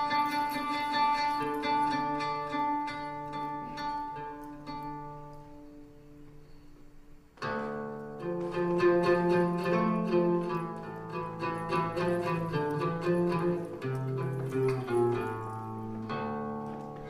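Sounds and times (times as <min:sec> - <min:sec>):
slow plucked string music: 0:00.0 - 0:17.0.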